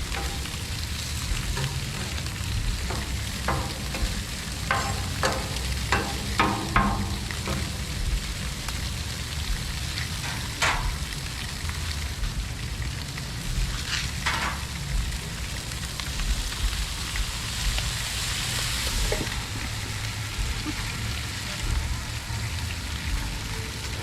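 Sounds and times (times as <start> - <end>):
food sizzling on griddle: 0.0 - 24.0.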